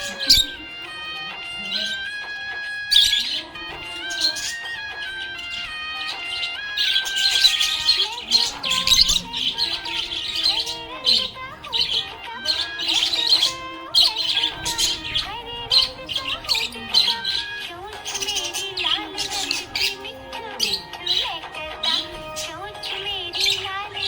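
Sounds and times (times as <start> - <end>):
background music with held notes: 0.0 - 24.0
budgerigar chirping and warbling: 0.0 - 24.0.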